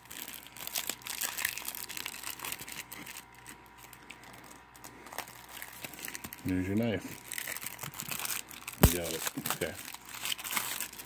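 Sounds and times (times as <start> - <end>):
paper and plastic case crinkling: 0.0 - 11.0.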